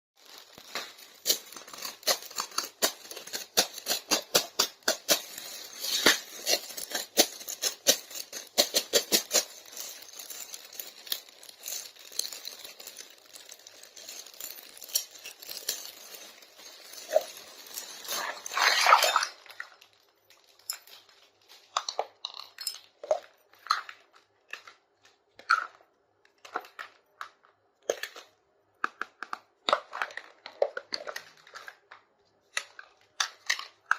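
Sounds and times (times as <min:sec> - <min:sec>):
plastic pieces clicking and tapping: 0:00.2 - 0:18.2, 0:19.8 - 0:33.9
packaging crinkling and tearing: 0:00.2 - 0:27.1, 0:29.0 - 0:33.9.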